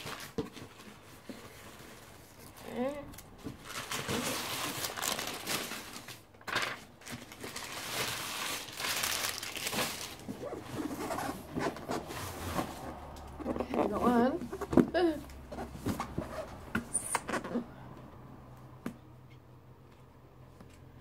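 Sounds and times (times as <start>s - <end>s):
cardboard crinkling and rustling: 0.0s - 17.6s.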